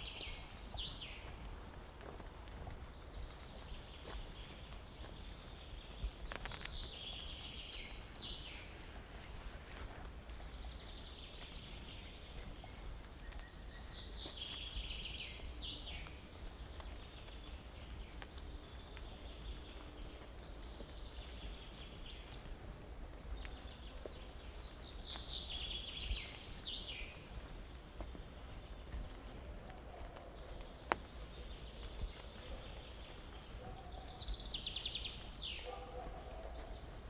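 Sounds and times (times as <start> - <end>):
faint footsteps: 0.0 - 37.0
songbird singing: 0.0 - 37.0.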